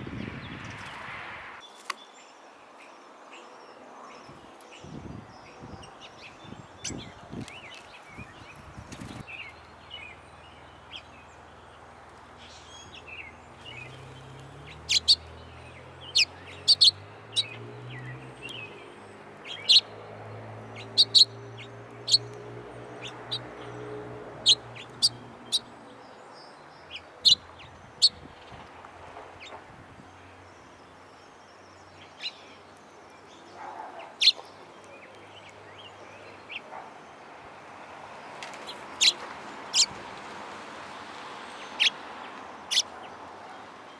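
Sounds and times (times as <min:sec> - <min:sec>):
birds chip calls: 0:04.2 - 0:43.9.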